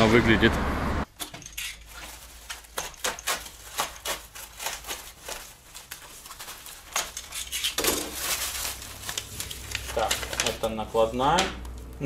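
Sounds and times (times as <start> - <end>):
plastic film crinkling and tearing: 1.7 - 11.9.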